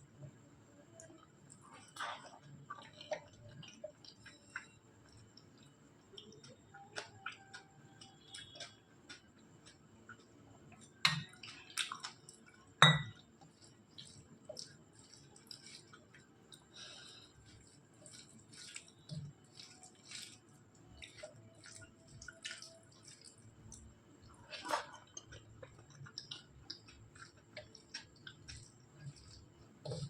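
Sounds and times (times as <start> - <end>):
wet chewing: 1.0 - 30.0.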